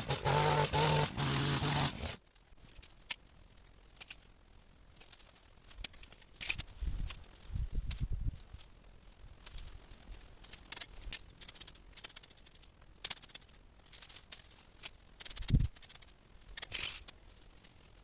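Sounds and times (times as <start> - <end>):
twigs and dry leaves rustling: 0.0 - 18.0.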